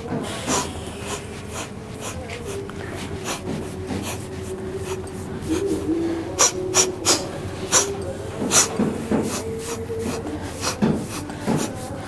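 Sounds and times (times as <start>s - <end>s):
hissing breath sounds: 0.0s - 12.0s
person murmuring low: 0.2s - 12.0s.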